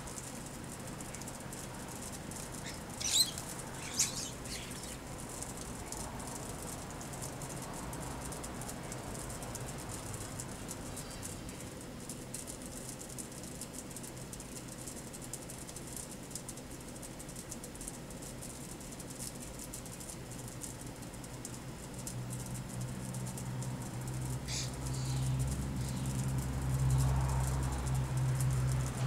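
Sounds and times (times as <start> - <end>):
small ticks: 0.0 - 29.0.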